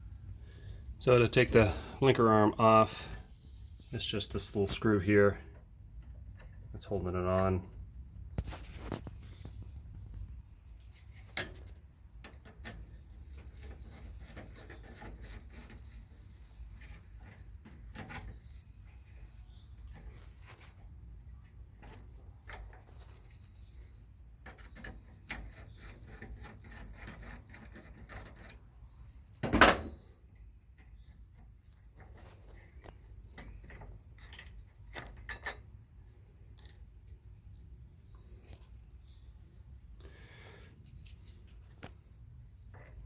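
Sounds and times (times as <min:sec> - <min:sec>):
small metal clicks and scrapes: 0:02.8 - 0:29.4, 0:30.0 - 0:38.8, 0:40.8 - 0:43.0.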